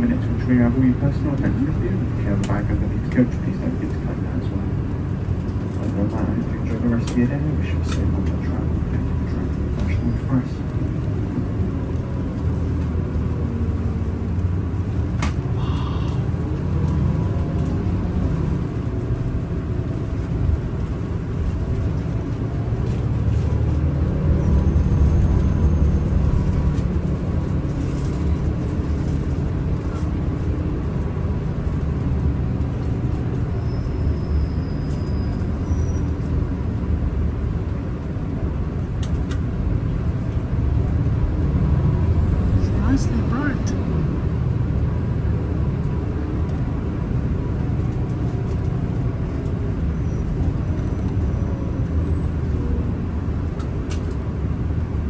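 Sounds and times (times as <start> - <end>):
coach engine and road noise: 0.0 - 55.0.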